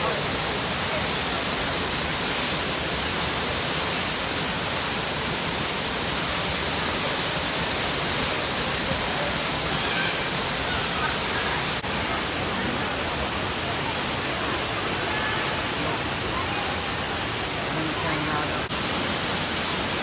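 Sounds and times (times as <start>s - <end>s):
rushing waterfall water: 0.0s - 20.0s.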